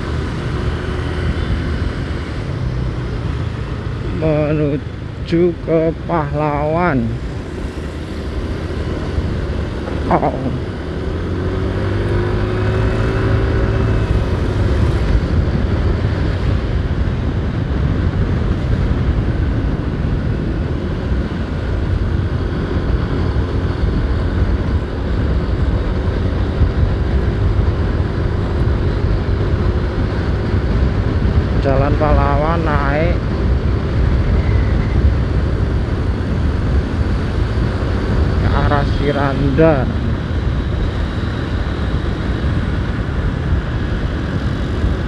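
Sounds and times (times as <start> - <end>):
motorcycle engine rumble: 0.0 - 45.0
road noise: 0.0 - 45.0.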